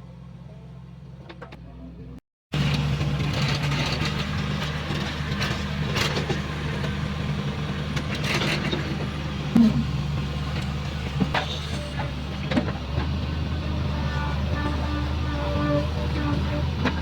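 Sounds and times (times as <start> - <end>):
heavy diesel engine running: 2.5 - 17.0.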